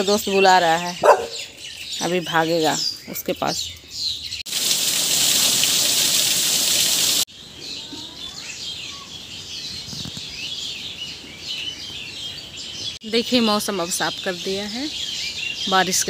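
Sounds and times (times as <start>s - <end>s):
birds chirping: 0.0s - 4.5s, 7.2s - 16.0s.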